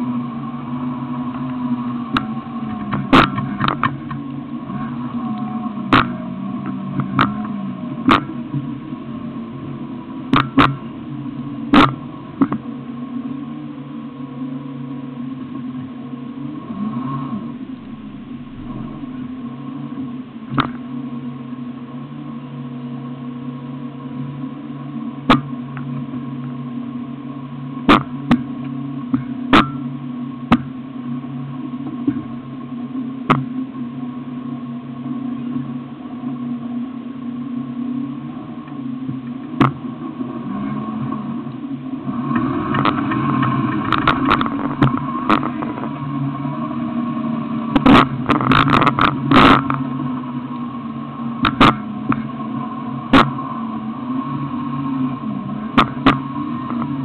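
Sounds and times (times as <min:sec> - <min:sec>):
off-road engine running: 0:00.0 - 0:57.0.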